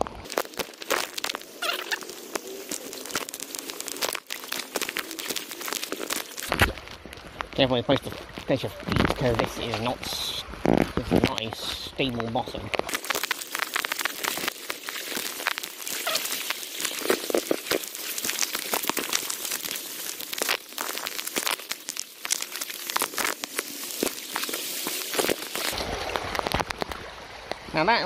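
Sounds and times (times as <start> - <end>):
brook running water: 0.0 - 28.0
footsteps splashing in water: 0.2 - 9.8, 12.6 - 27.6.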